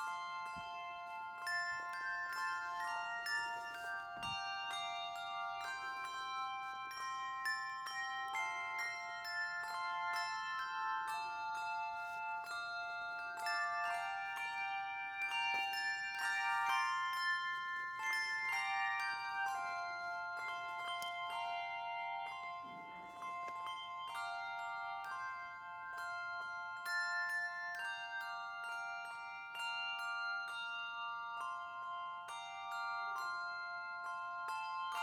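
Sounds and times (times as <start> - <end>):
bell melody: 0.0 - 35.0.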